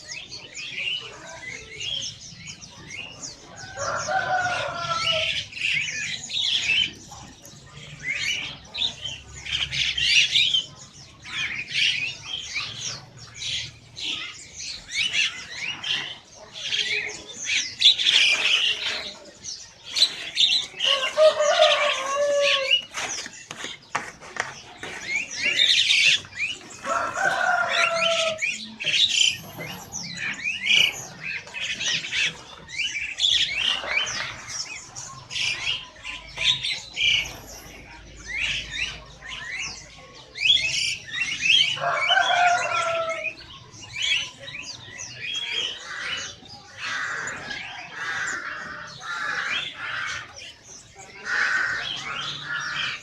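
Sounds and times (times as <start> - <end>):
caged birds chirping and squawking: 0.0 - 53.0.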